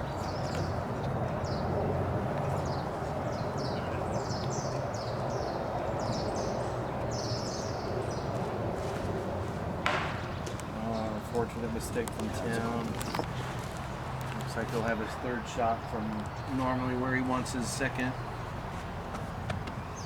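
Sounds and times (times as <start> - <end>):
small birds chirping: 0.0 - 9.0, 9.9 - 20.0.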